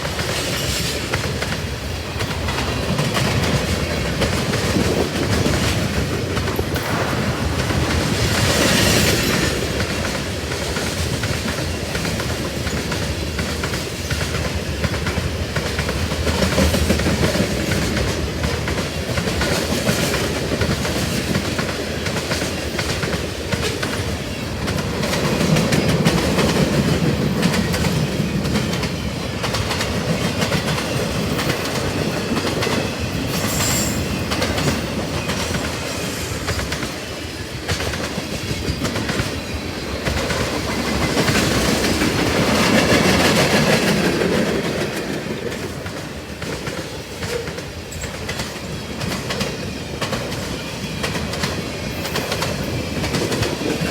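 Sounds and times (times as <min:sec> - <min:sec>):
freight train wheels clacking: 0:00.0 - 0:53.9.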